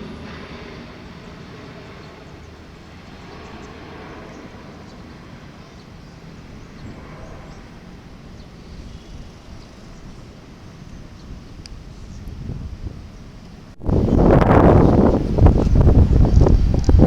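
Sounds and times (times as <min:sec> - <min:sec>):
distant turboprop engines rumbling: 0:00.0 - 0:17.0.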